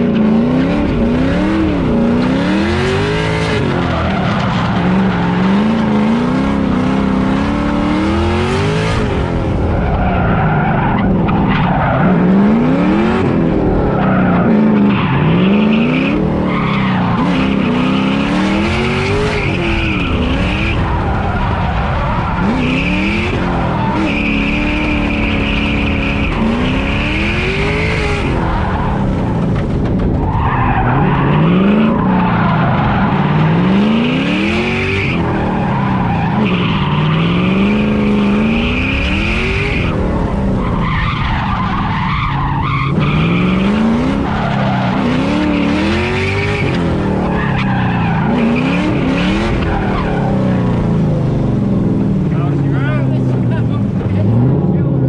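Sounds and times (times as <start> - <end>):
car engine revving hard: 0.0 - 29.8, 30.5 - 55.0
tire squeal: 2.3 - 29.4, 30.2 - 50.8.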